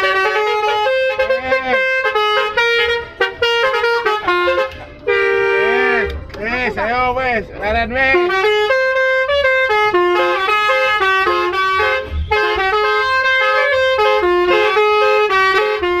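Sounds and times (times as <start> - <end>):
multi-tone bus air horn melody: 0.0 - 6.3, 8.0 - 16.0.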